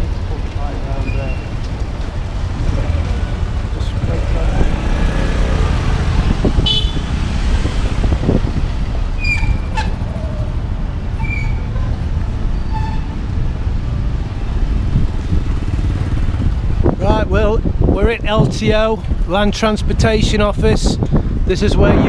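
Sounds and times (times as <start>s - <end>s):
motorbike engine rumble: 0.0s - 18.0s
wind on microphone: 1.5s - 12.4s, 13.0s - 22.0s.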